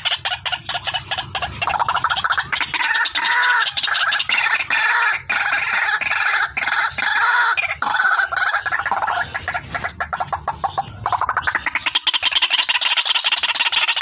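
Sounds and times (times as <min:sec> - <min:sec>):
waterhen calling repeated notes: 0:00.0 - 0:14.0.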